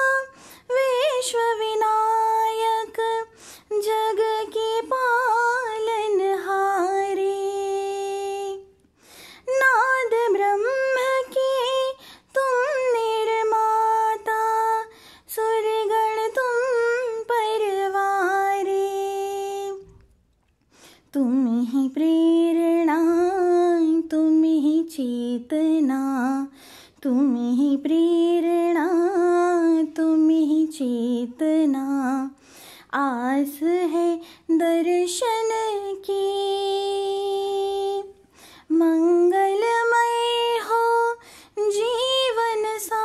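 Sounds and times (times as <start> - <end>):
woman singing devotional song: 0.0 - 43.0.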